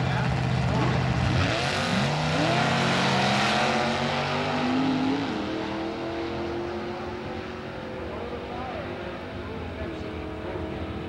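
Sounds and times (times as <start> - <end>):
drag racing cars accelerating: 0.0 - 11.0.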